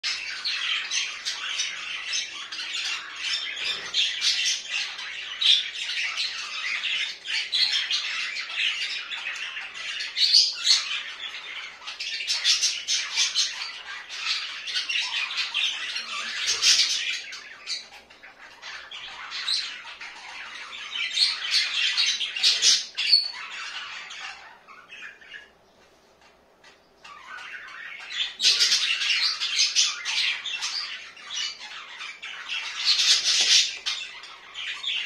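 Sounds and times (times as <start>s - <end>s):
budgerigars chattering and squawking: 0.0s - 35.0s.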